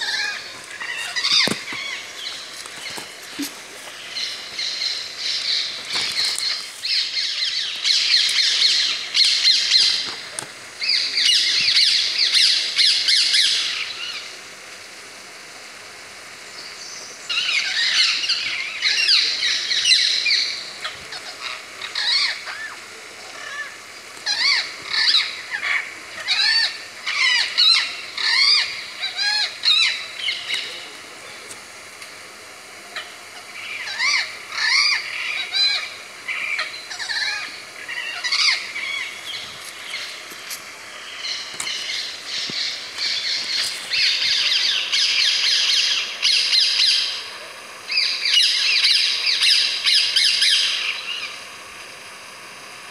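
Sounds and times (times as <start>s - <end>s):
forest birds calling: 0.0s - 14.9s, 16.2s - 52.9s.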